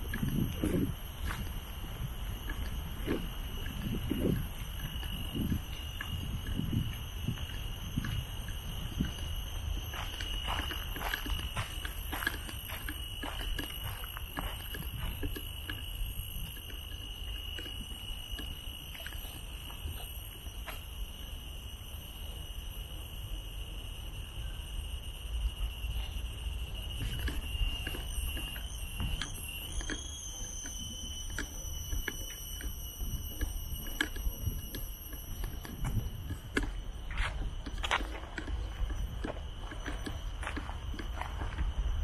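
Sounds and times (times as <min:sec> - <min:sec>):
footsteps on a trail: 0:00.0 - 0:21.2, 0:26.1 - 0:42.0.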